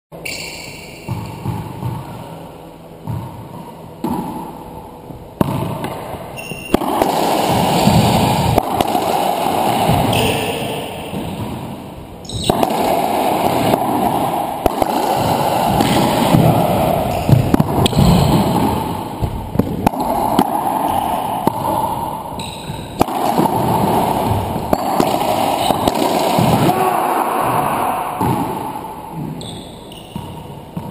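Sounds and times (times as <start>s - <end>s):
racquetball hitting racquets and walls: 0.2s - 30.9s.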